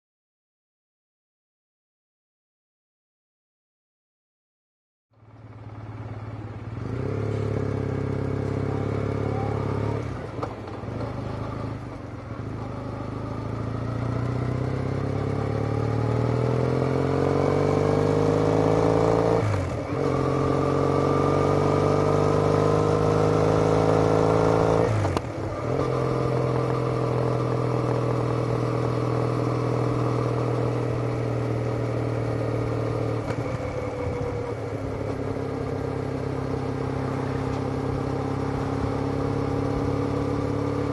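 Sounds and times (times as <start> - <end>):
motorcycle accelerating through gears: 5.2 - 40.9.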